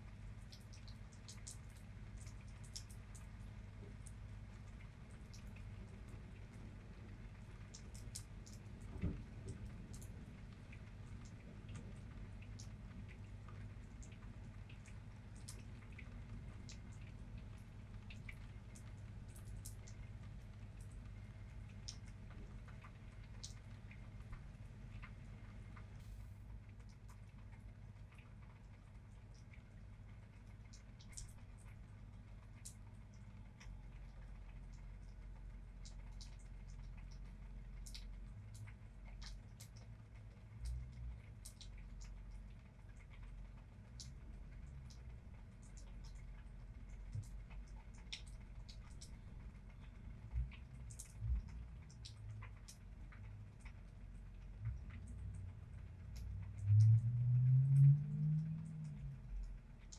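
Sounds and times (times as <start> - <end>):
low background noise: 0.0 - 59.9
low steady rumble: 0.0 - 59.9
rain drops ticking: 0.0 - 59.9.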